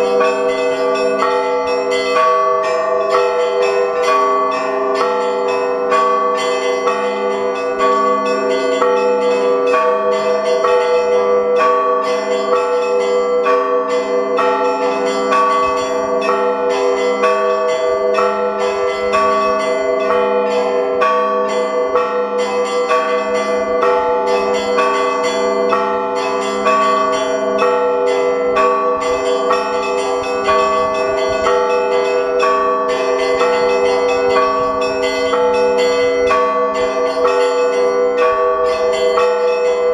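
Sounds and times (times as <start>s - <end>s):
deep bells ringing: 0.0s - 39.9s.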